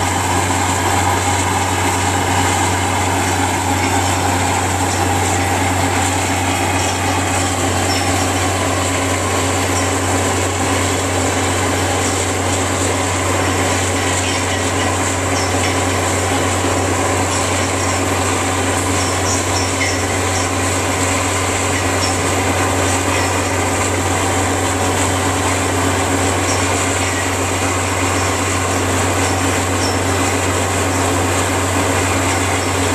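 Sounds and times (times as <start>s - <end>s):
drill rig running: 0.0s - 32.9s.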